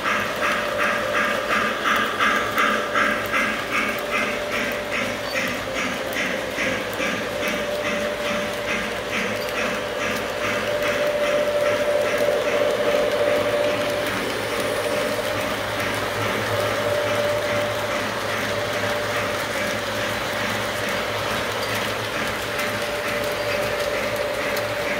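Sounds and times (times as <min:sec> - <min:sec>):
model train wheels clicking: 0:00.0 - 0:24.9
steady whine: 0:00.0 - 0:24.9.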